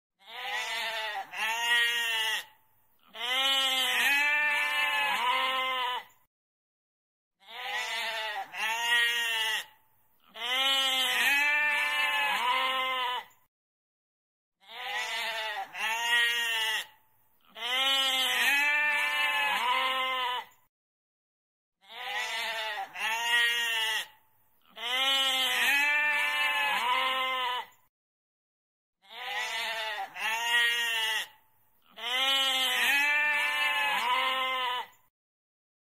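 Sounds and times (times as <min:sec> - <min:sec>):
goat bleating: 0:00.2 - 0:06.2, 0:07.4 - 0:13.4, 0:14.6 - 0:20.6, 0:21.8 - 0:27.8, 0:29.0 - 0:35.0.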